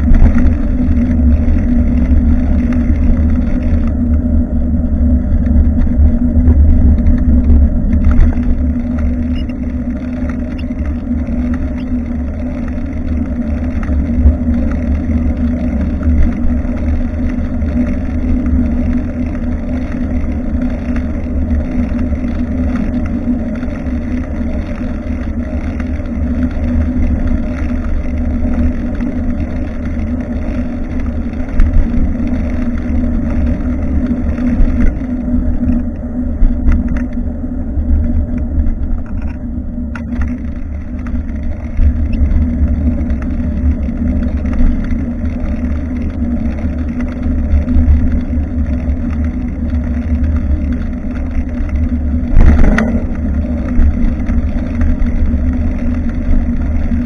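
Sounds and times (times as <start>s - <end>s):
wind buffeting microphone: 0.0s - 24.6s, 25.4s - 57.0s
road rumble: 0.0s - 57.0s.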